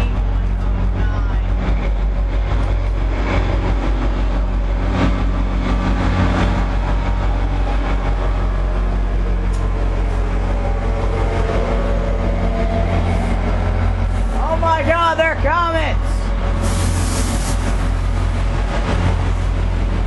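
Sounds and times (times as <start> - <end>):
diesel locomotive engine rumbling: 0.0 - 20.0.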